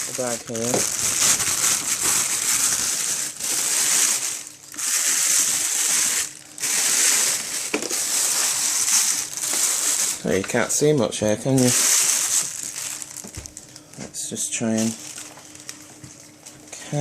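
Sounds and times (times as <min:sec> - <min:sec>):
plastic bag rustling and crinkling: 0:00.0 - 0:16.8.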